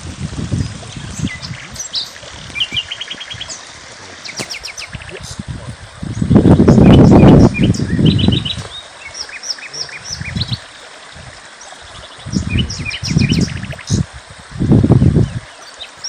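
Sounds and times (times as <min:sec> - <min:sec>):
songbirds chirping: 0:00.5 - 0:14.1, 0:15.2 - 0:16.0.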